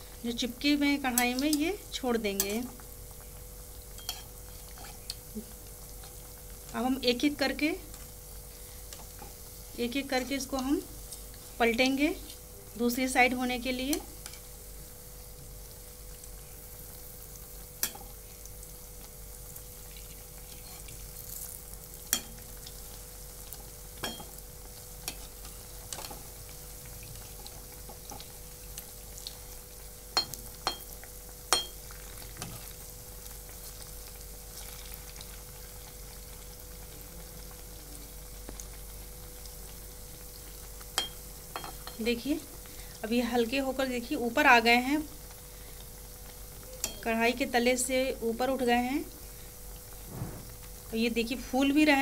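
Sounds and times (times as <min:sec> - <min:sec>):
fritters sizzling in hot oil: 0:00.0 - 0:52.0.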